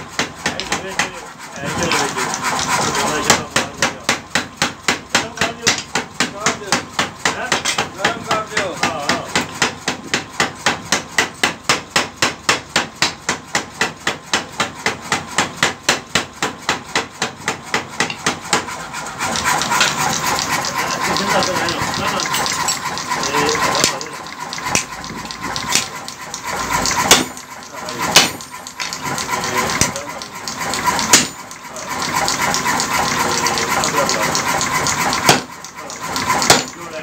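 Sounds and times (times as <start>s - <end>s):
power hammer striking hot steel: 0.0s - 37.0s.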